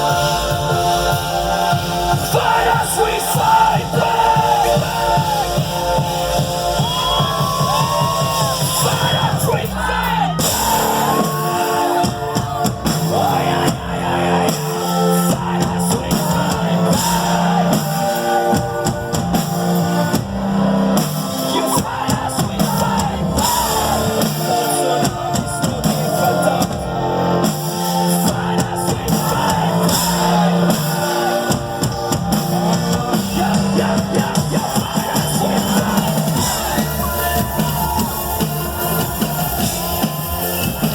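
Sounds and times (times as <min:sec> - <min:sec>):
person singing: 0:00.0 - 0:19.2, 0:21.2 - 0:40.9
rock band playing live: 0:00.0 - 0:40.9.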